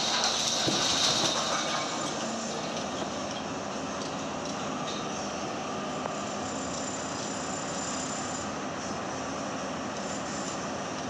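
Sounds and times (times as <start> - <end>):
excavator running under load: 0.0 - 11.0.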